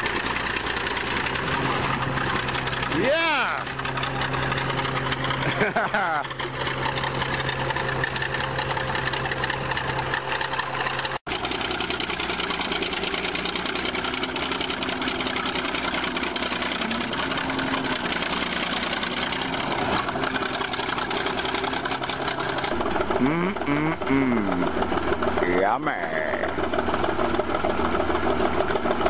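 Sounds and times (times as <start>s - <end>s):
bulldozer engine running: 0.0s - 29.0s.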